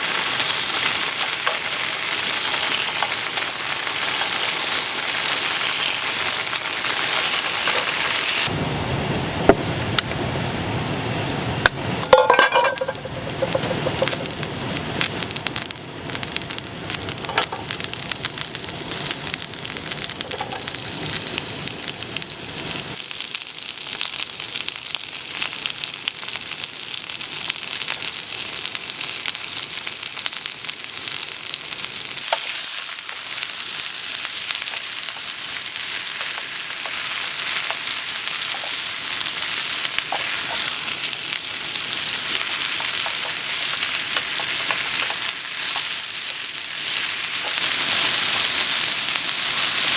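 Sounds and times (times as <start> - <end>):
food sizzling in a pan: 0.0 - 8.7, 11.4 - 49.9.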